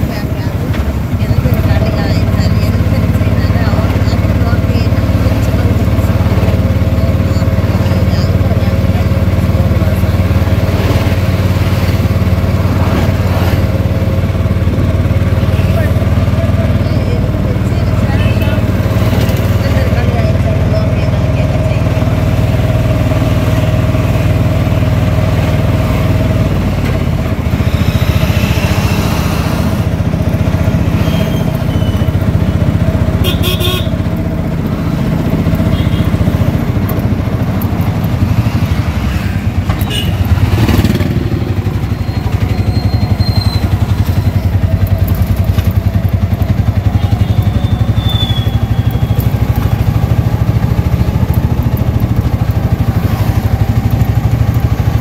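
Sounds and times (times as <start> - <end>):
rickshaw engine running: 0.0 - 55.0.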